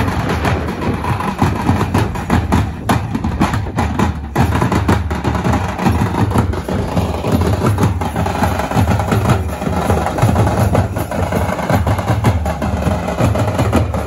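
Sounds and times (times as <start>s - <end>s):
large drums beaten fast: 0.0s - 14.0s.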